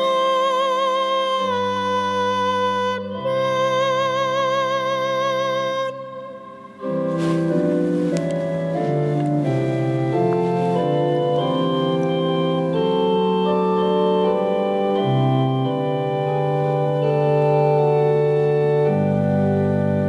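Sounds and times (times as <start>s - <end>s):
pipe organ chords: 3.1s - 20.0s.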